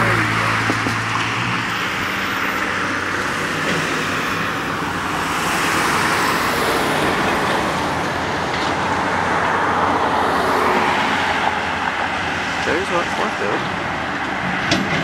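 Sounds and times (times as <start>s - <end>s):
cars passing with tyre noise: 0.0s - 15.0s
truck passing: 0.0s - 15.0s.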